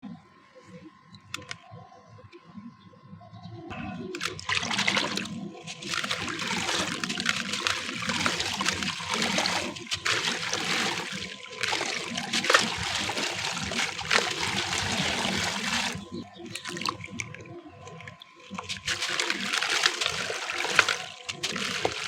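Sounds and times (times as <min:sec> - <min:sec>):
water dribbling: 0:03.7 - 0:22.0
wet concrete crunching: 0:04.0 - 0:22.0.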